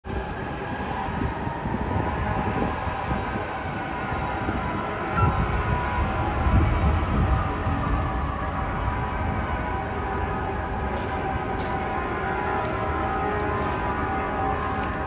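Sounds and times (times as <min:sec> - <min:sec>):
passing vehicles rumbling: 0:00.1 - 0:15.0.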